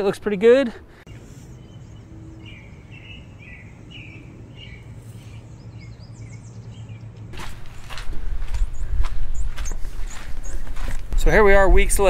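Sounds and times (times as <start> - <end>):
birds chirping: 0.0 - 12.0
low outdoor background noise: 0.0 - 12.0.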